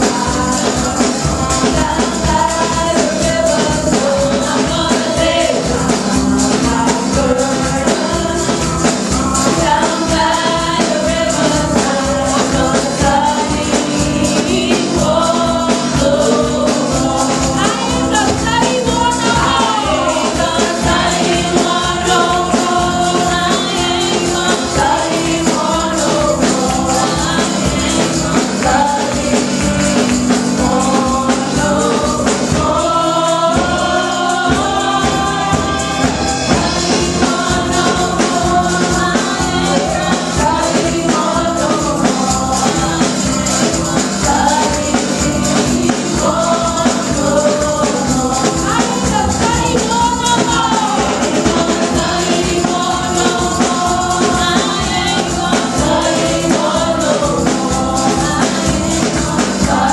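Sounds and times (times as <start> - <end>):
music playing: 0.0 - 59.9
women singing gospel: 0.0 - 59.9.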